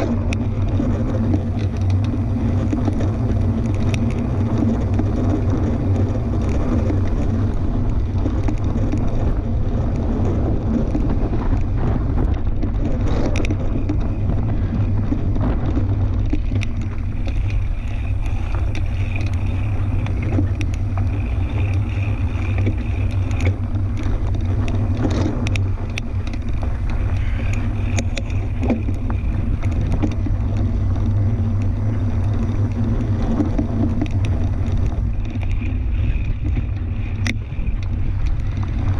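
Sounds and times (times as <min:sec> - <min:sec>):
bike clicks and rattles: 0:00.0 - 0:38.9
tyres rolling on dirt: 0:00.0 - 0:38.9
wind on microphone: 0:00.0 - 0:38.9.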